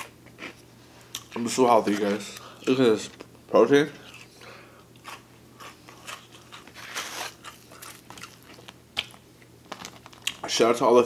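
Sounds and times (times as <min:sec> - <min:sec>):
person chewing food: 0:00.0 - 0:02.5, 0:04.0 - 0:10.4.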